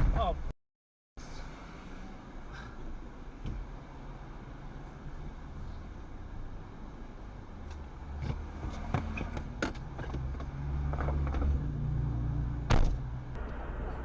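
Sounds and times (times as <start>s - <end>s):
car engine and road noise: 1.2s - 14.0s.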